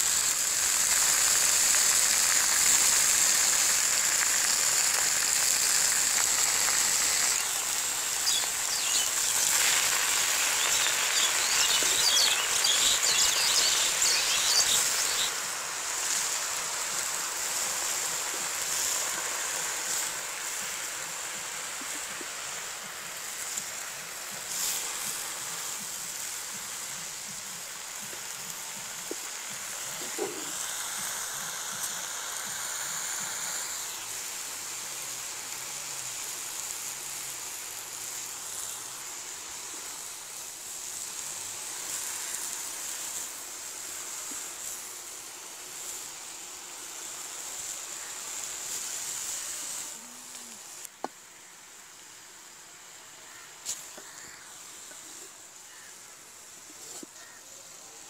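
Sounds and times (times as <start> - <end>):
leaves sizzling in a pan: 0.0 - 58.0.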